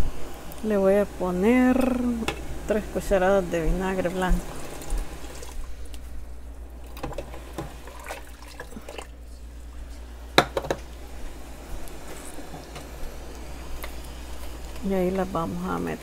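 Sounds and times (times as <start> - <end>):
low steady hum: 0.0 - 16.0
water boiling and bubbling: 0.0 - 16.0.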